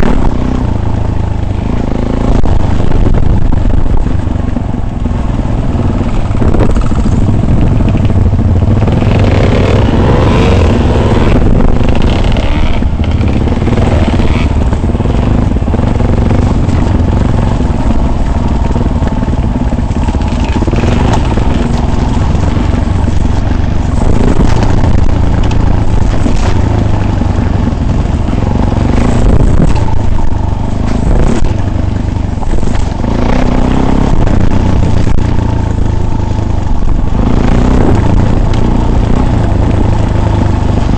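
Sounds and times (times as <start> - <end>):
rattling over rough ground: 0.0 - 40.9
vehicle engine running: 0.0 - 40.9.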